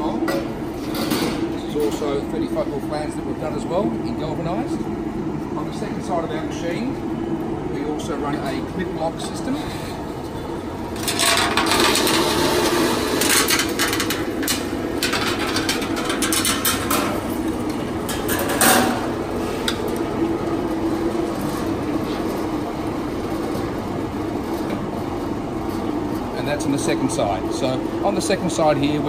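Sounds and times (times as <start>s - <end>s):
roll former machine humming: 0.0s - 29.0s.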